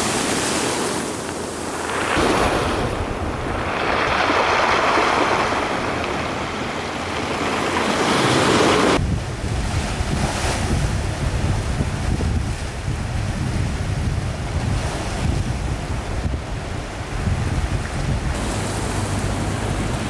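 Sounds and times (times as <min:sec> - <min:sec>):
sea waves washing: 0:00.0 - 0:20.0
wind buffeting microphone: 0:00.0 - 0:20.0.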